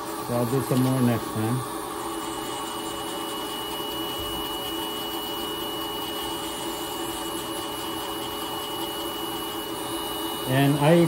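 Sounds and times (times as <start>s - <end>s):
rotary nail drill grinding: 0.0s - 11.0s.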